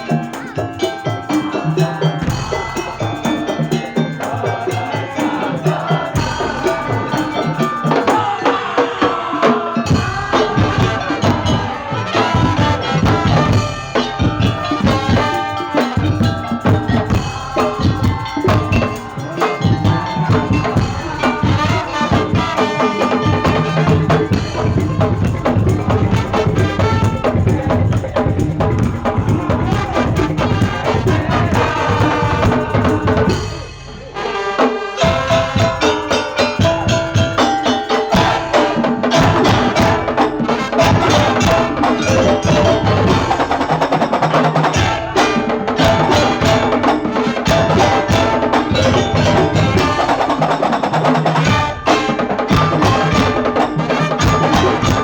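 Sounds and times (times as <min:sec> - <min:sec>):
drums and slit drums ensemble: 0:00.0 - 0:55.0.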